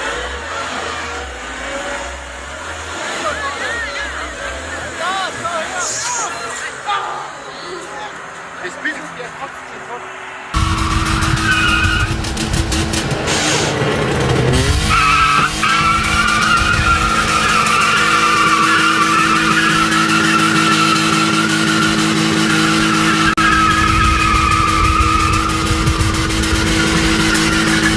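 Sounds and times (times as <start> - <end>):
vehicle engine running loud: 0.0 - 6.0, 10.0 - 27.9
tyres squealing: 0.0 - 27.9.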